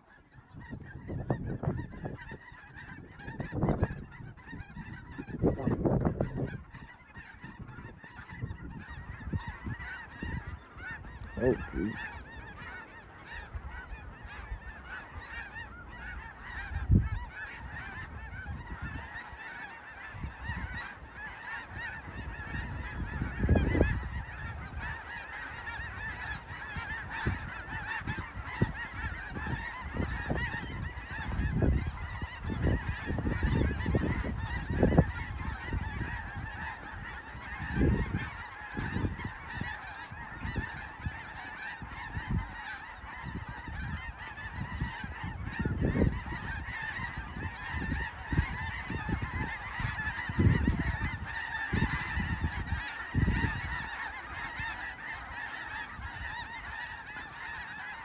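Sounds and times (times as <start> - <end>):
geese honking chorus: 0.0 - 58.0.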